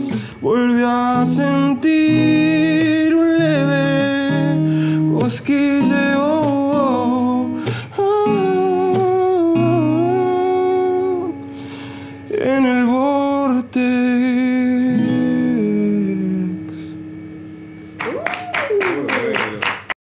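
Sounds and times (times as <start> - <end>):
man singing long wordless notes: 0.0 - 17.1
strummed acoustic guitar: 0.0 - 18.1.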